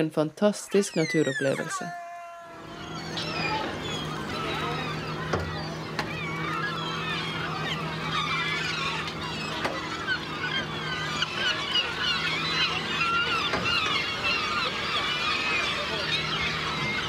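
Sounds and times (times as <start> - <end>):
boat engine humming: 0.0 - 17.0
gulls calling: 0.0 - 17.0.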